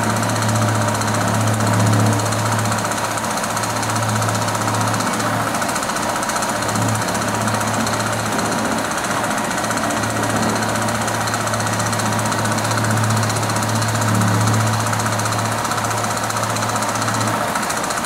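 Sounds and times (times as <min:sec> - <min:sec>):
fast hammering vibration: 0:00.0 - 0:18.0
road machinery humming: 0:00.0 - 0:18.0.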